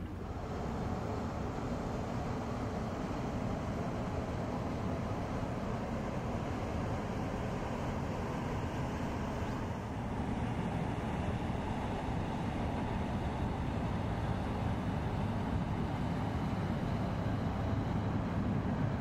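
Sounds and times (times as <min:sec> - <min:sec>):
ship diesel engine rumble: 0:00.0 - 0:19.0.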